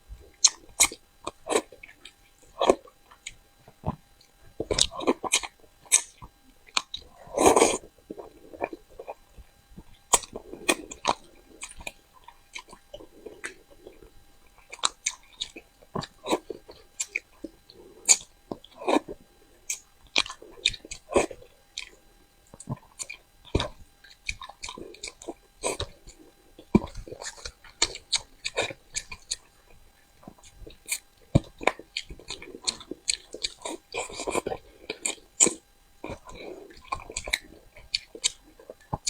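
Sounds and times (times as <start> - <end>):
person chewing wetly: 0.0 - 39.0.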